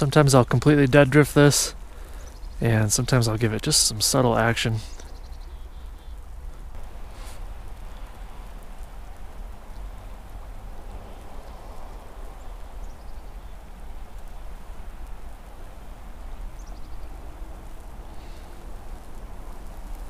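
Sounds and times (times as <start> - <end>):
river water flowing: 3.3 - 20.0.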